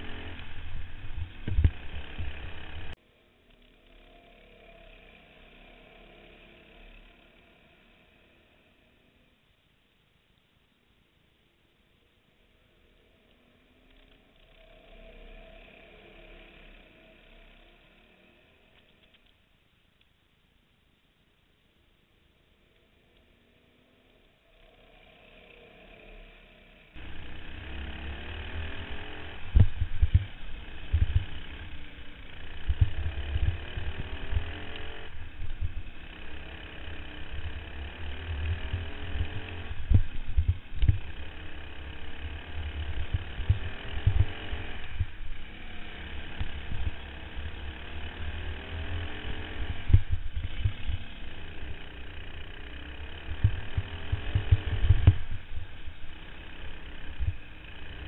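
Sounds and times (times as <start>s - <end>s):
karts passing: 0.0s - 9.0s, 13.1s - 18.8s, 23.4s - 58.0s
kart engine revving: 0.0s - 9.1s, 13.1s - 19.2s, 23.4s - 58.0s.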